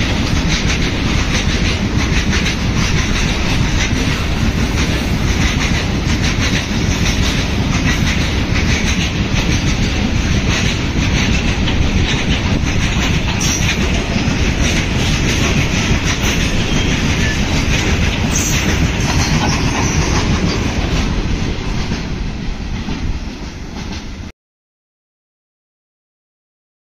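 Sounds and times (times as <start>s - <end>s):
clickety-clack over rail joints: 0.0s - 24.3s
train wheels on rails: 0.0s - 24.3s.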